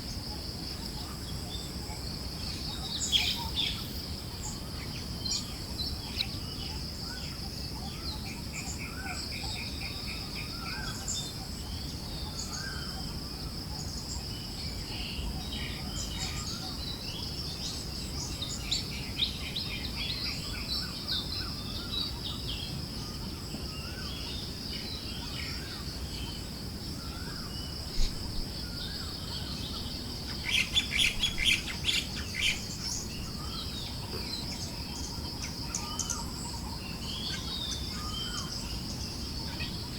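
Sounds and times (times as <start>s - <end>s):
forest birds chirping and trilling: 0.0s - 39.9s
high insect drone: 0.0s - 39.9s
low background hiss: 0.0s - 39.9s.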